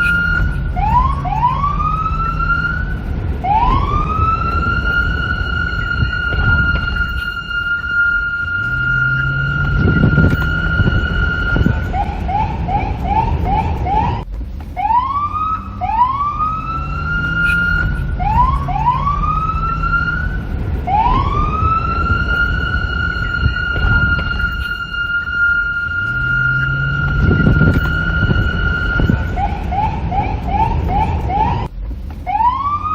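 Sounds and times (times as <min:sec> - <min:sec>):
electronic police siren: 0:00.0 - 0:14.2, 0:14.8 - 0:31.7, 0:32.3 - 0:32.9
low rumble: 0:00.0 - 0:32.9.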